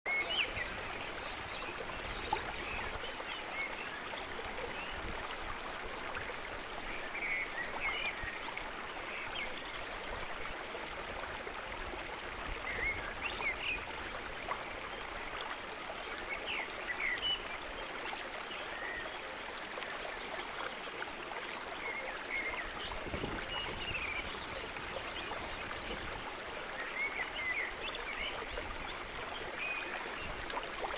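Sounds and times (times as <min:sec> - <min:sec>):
flowing water rushing: 0:00.1 - 0:30.9.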